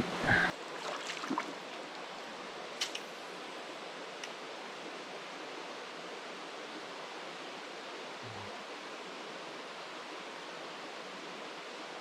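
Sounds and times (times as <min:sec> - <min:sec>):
creek running over rocks: 0:00.0 - 0:11.7.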